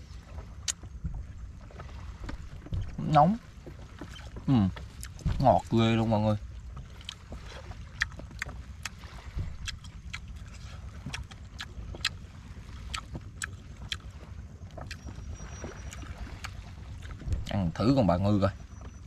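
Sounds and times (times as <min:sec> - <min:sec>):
wind and sea rumble: 0:00.0 - 0:19.0.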